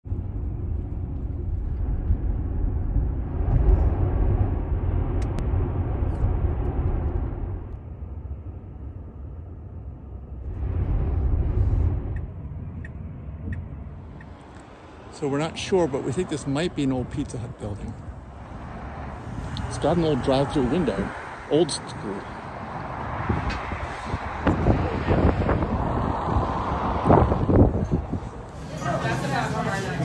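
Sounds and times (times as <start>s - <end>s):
road and tyre rumble: 0.0s - 30.0s.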